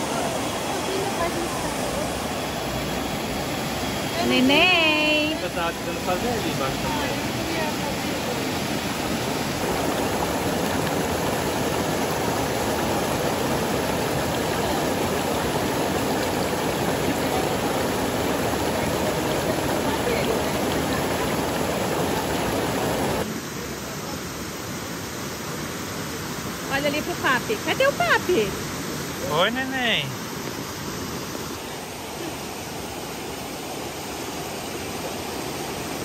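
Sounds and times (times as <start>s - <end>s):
waterfall rushing: 0.0s - 23.7s, 26.5s - 36.0s.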